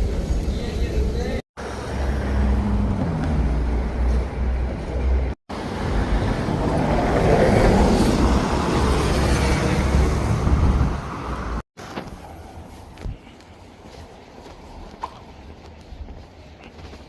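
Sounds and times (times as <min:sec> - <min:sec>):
deep traffic rumble: 0:00.0 - 0:16.2.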